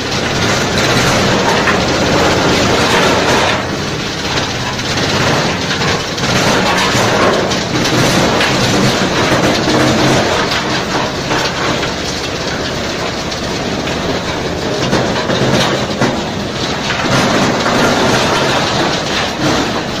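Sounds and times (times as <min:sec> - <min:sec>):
stump grinder machine hum: 0:00.0 - 0:20.0.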